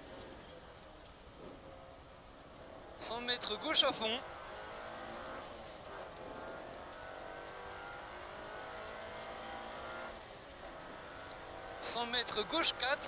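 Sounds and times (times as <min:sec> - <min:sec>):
car engine revving: 0:00.0 - 0:13.0
tyre and road noise: 0:00.0 - 0:13.0.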